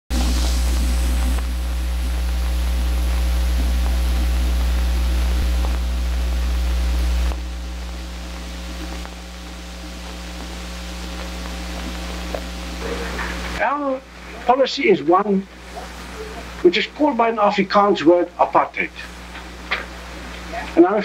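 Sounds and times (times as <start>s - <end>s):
film soundtrack hum and hiss: 0.1s - 21.0s.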